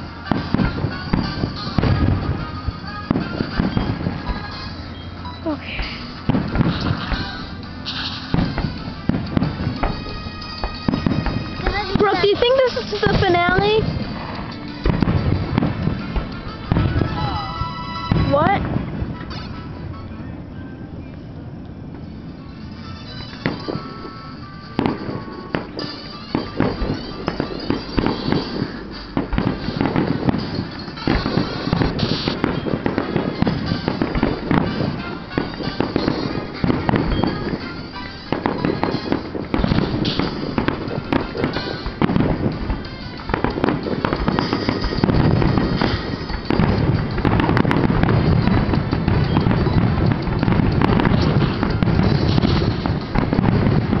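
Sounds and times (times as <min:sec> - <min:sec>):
firework shells bursting: 0:00.0 - 0:20.2, 0:21.9 - 0:54.0.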